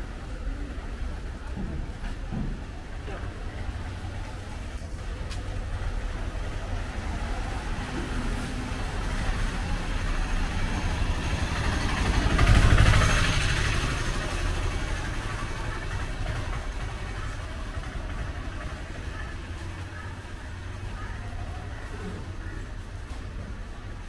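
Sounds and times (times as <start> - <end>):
low street rumble: 0.0 - 24.0
small engine passing: 3.3 - 24.0.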